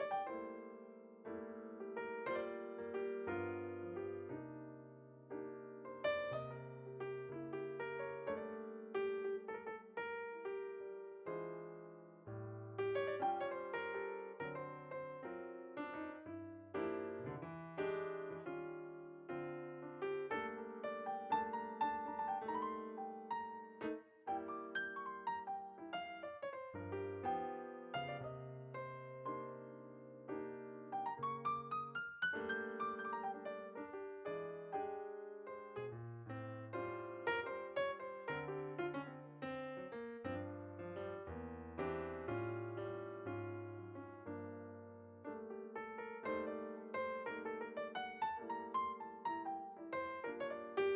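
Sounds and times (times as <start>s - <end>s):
slow gentle piano music: 0.0s - 50.9s.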